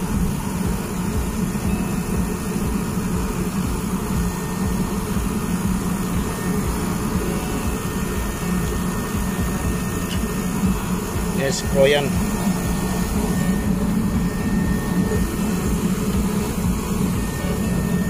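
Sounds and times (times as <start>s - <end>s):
air conditioner unit humming: 0.0s - 18.0s.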